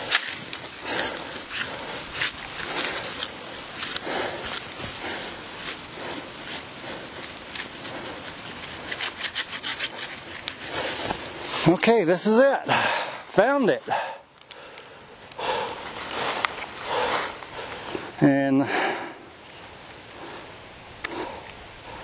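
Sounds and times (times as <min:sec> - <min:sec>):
weeds rustling and crackling: 0:00.0 - 0:18.5.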